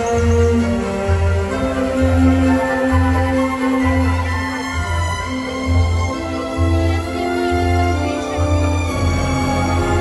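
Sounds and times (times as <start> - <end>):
music with long held notes: 0.0 - 10.0.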